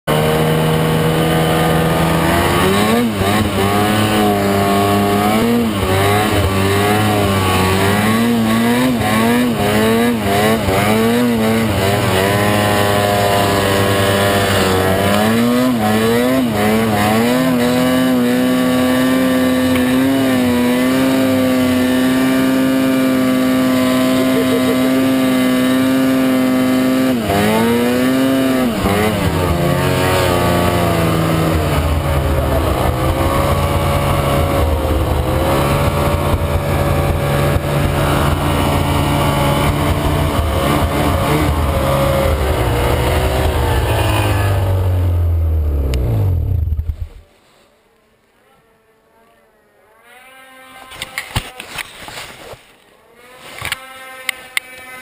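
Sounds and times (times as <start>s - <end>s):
snowmobile engine revving: 0.1s - 47.3s, 50.0s - 51.9s, 53.1s - 55.0s.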